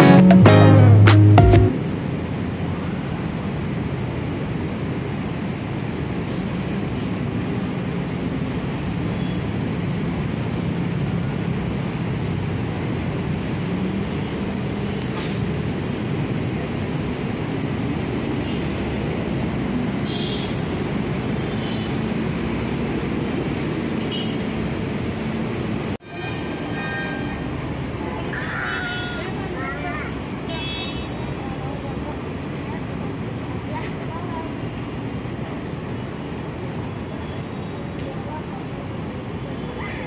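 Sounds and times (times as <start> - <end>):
bus engines humming: 0.0 - 40.0
road traffic: 0.0 - 40.0.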